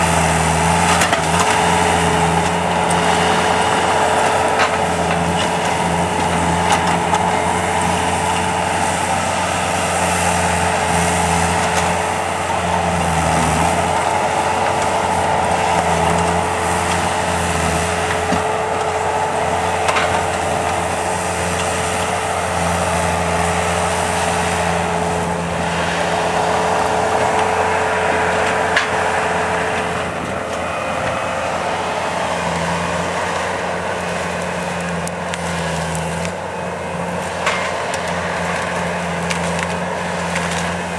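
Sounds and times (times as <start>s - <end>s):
constant whine: 0.0s - 40.9s
skid loader engine running: 0.0s - 40.9s.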